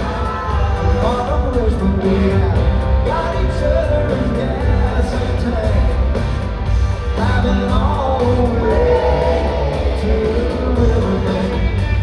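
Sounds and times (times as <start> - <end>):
bass guitar: 0.0 - 12.0
lead vocal: 0.0 - 12.0
steady drum beat: 0.0 - 12.0.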